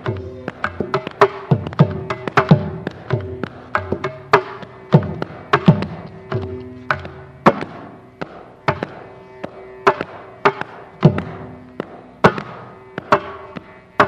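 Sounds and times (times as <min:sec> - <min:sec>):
mridangam drumming: 0:00.0 - 0:14.0.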